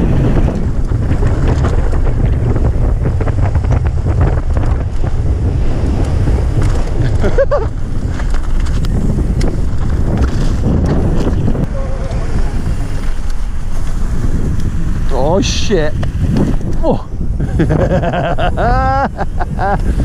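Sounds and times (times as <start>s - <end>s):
bike rattling and clicking: 0.0s - 20.0s
wind rushing over microphone: 0.0s - 20.0s.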